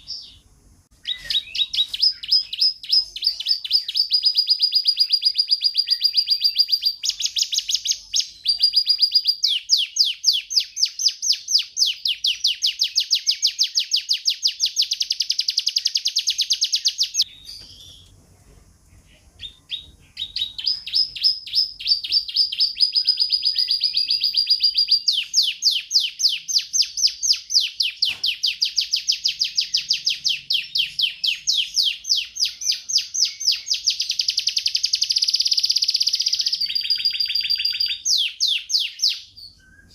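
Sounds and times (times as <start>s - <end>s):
canary singing trills: 0.0s - 18.2s, 19.0s - 39.9s.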